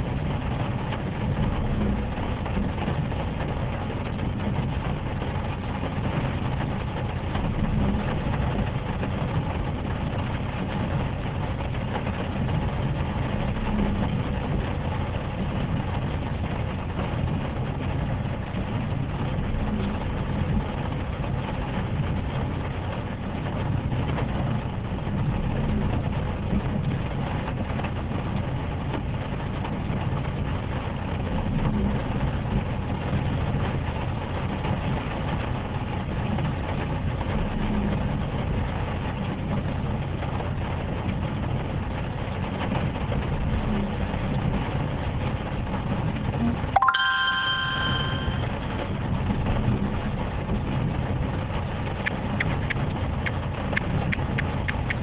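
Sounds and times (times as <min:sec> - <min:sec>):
windscreen wipers sweeping: 0:00.0 - 0:46.7, 0:48.5 - 0:55.0
car engine and tyre noise: 0:00.0 - 0:46.8, 0:47.5 - 0:55.0.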